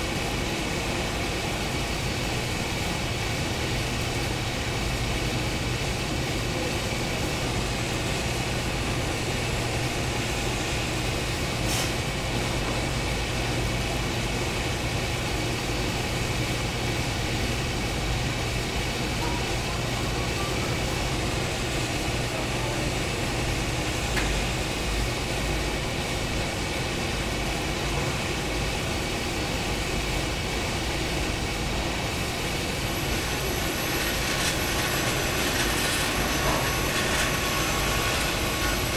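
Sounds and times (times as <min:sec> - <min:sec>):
factory machinery droning: 0:00.0 - 0:38.9.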